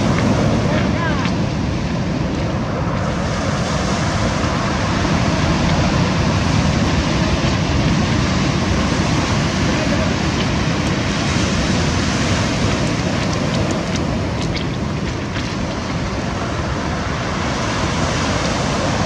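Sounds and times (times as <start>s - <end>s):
surf breaking on pebble beach: 0.0s - 19.0s
wind buffeting microphone: 0.0s - 19.0s.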